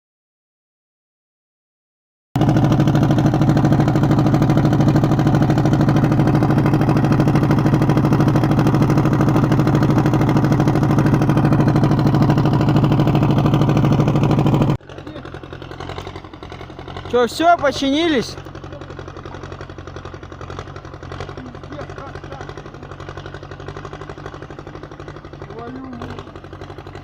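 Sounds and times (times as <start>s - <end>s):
tracked vehicle engine running: 2.4s - 27.0s.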